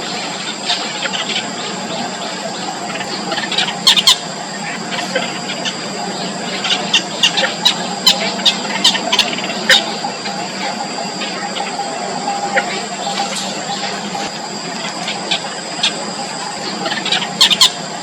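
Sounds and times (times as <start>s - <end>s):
steady high whine: 0.0s - 18.0s
small birds chirping: 0.1s - 18.0s.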